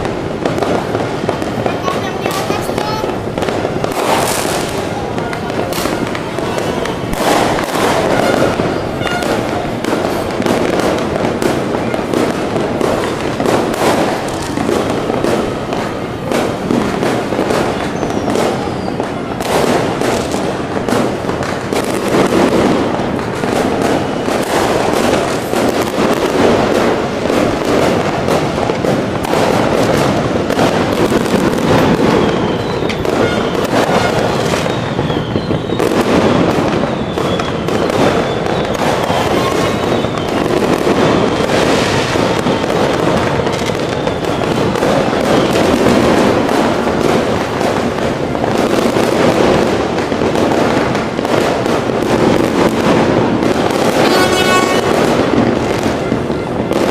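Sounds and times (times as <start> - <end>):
fireworks bangs and crackles: 0.0 - 56.9
fireworks whistles: 0.0 - 56.9.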